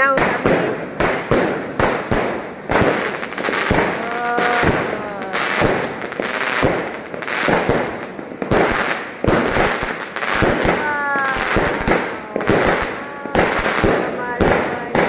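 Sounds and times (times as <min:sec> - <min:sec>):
fireworks bangs: 0:00.0 - 0:15.0
fireworks crackling hiss: 0:00.0 - 0:15.0.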